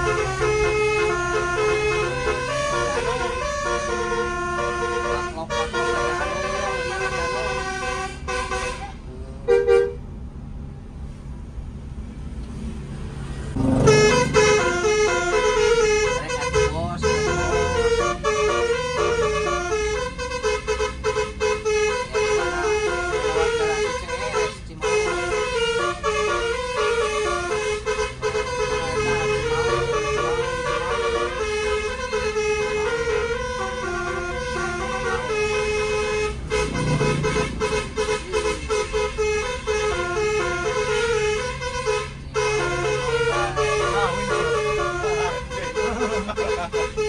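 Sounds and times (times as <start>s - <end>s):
bus horn playing a tune: 0.0s - 10.1s, 13.2s - 47.0s
bus engine running: 0.0s - 47.0s.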